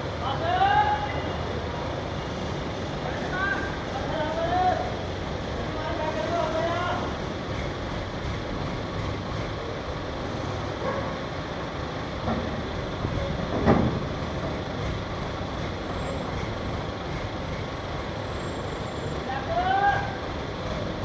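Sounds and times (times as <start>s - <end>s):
crane diesel engine rumbling: 0.0s - 21.0s.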